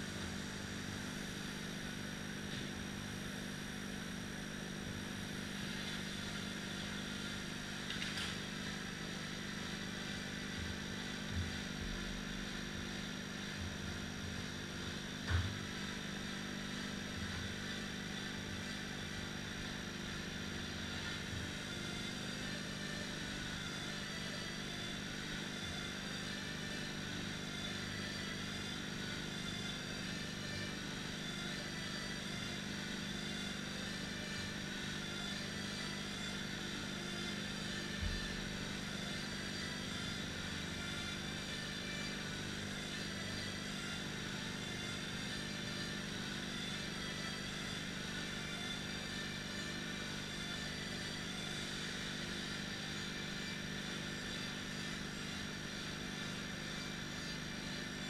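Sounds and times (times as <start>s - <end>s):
mechanical drone with low hum: 0.0s - 58.0s.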